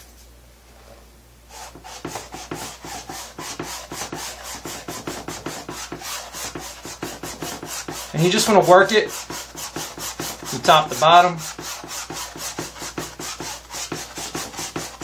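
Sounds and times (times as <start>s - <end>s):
paintbrush scrubbing on canvas: 1.5s - 15.0s.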